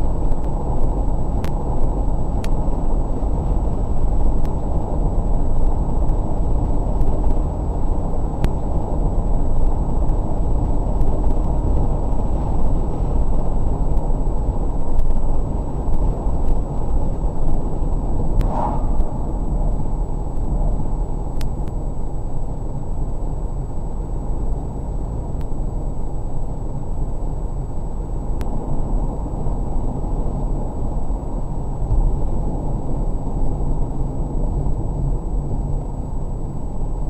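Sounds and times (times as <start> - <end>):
car driving road and engine noise: 0.0 - 37.0.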